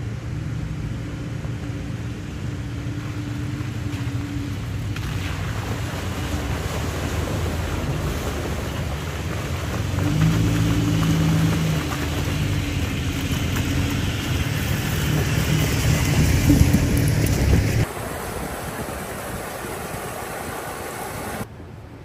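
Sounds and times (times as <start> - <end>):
rumble of road noise: 0.0 - 22.0.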